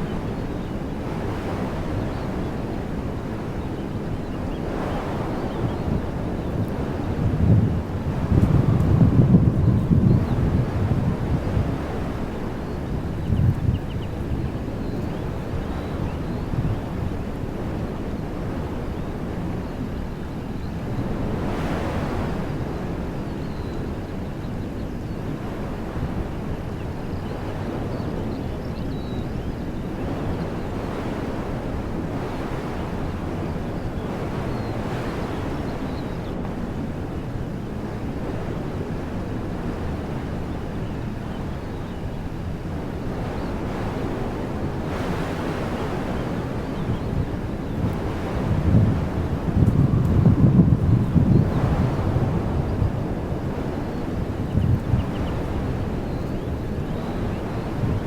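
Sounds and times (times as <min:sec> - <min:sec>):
wind buffeting microphone: 0:00.0 - 0:58.0
wind rushing through trees: 0:00.0 - 0:58.0.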